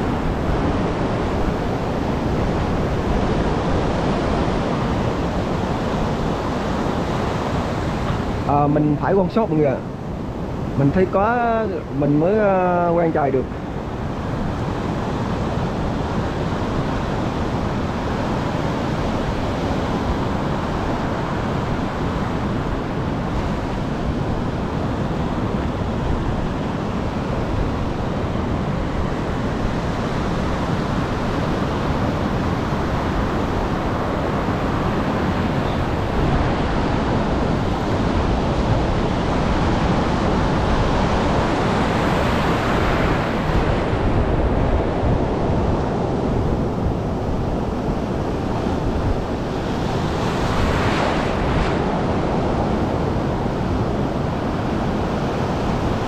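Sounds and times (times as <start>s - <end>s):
heavy surf breaking: 0.0s - 56.0s
wind buffeting microphone: 0.0s - 56.0s.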